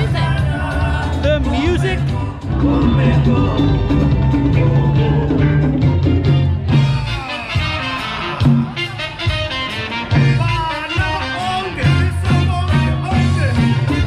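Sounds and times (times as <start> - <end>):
upbeat music with bass beat: 0.0 - 14.0.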